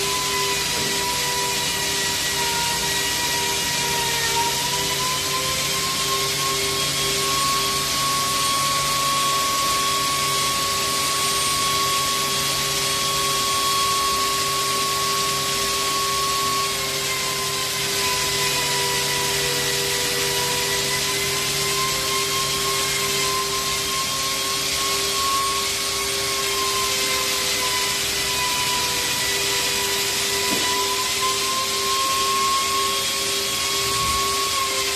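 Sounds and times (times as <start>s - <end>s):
loud hiss of machining: 0.0s - 34.9s
router spindle whine: 0.0s - 34.9s.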